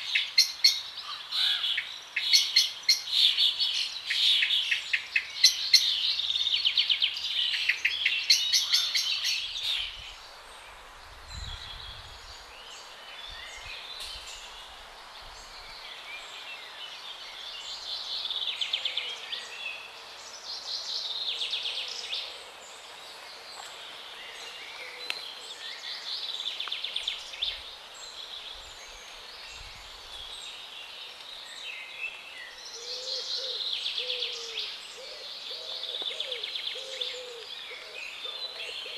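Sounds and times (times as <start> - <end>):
background hiss: 0.0 - 38.9
songbirds singing: 0.0 - 38.9.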